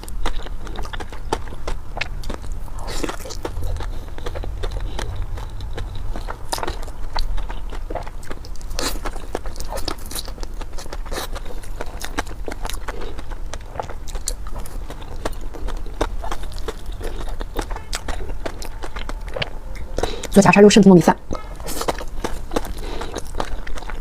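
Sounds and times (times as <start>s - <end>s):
person chewing food: 0.0s - 20.4s, 21.2s - 24.0s
steady low hum: 0.0s - 24.0s.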